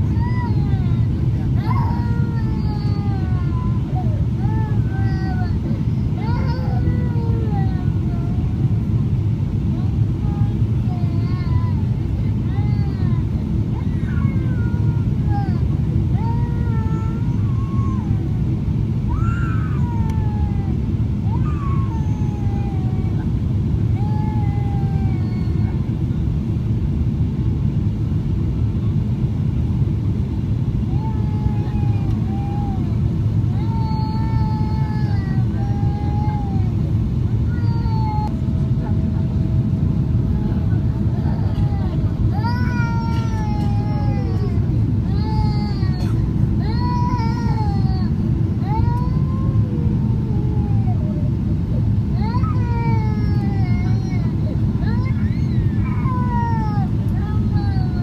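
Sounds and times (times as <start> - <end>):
young child crying: 0.0 - 8.8, 9.8 - 18.4, 19.1 - 25.9, 30.9 - 58.0
aircraft cabin rumble: 0.0 - 58.0.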